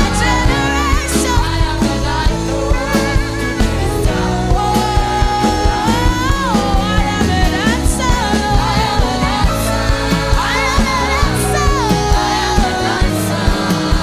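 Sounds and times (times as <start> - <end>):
drums: 0.0 - 14.0
worship band playing: 0.0 - 14.0.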